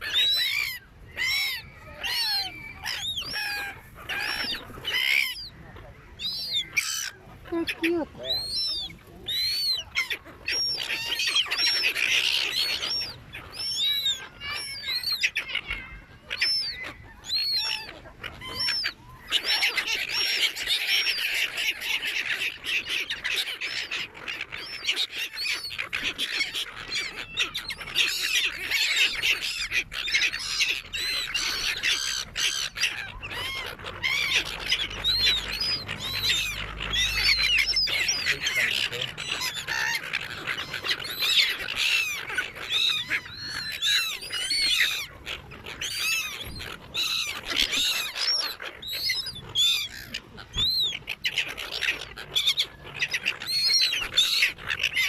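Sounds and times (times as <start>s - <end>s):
seagulls squawking: 0.0s - 55.0s.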